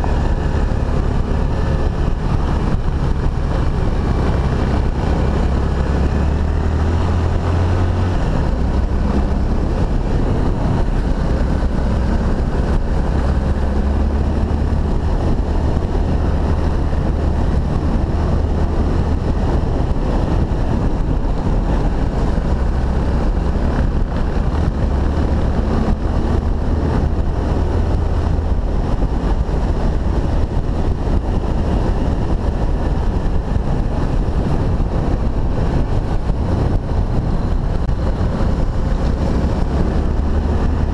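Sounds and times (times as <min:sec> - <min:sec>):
motorcycle engine humming: 0:00.0 - 0:40.9
wind noise on microphone: 0:00.0 - 0:40.9.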